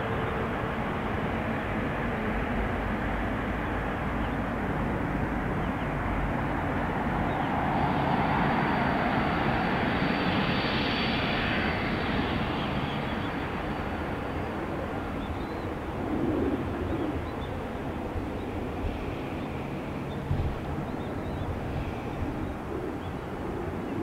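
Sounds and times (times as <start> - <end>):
jet engine whine: 0.0 - 24.0
jet engines rumbling: 0.0 - 24.0.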